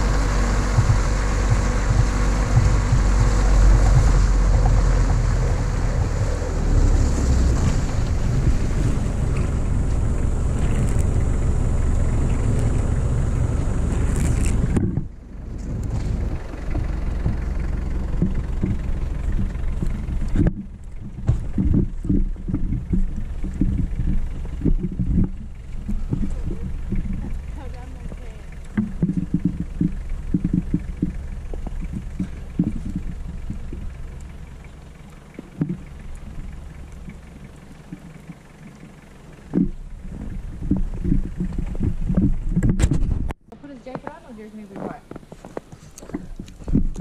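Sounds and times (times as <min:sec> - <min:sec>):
off-road vehicle engine running: 0:00.0 - 0:47.0.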